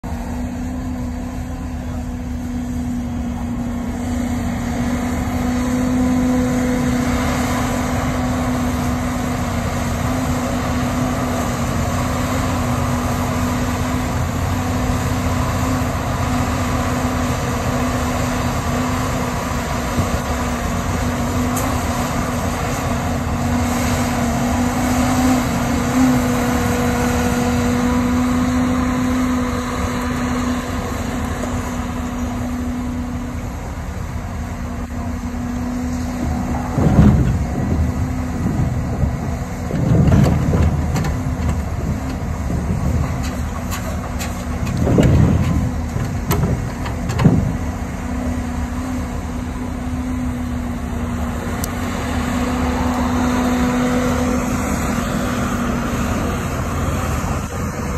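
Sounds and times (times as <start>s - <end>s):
diesel engine under hydraulic load: 0.0s - 57.9s.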